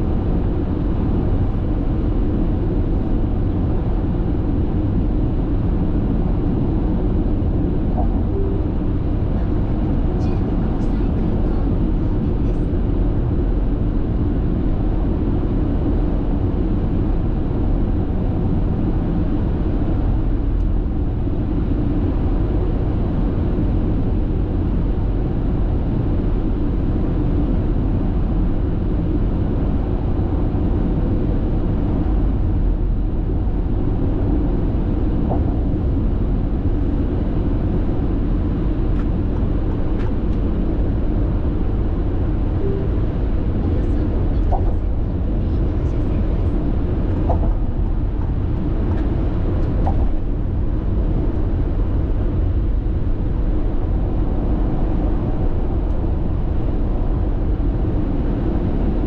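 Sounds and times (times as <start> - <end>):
car road and tyre noise: 0.0 - 59.0.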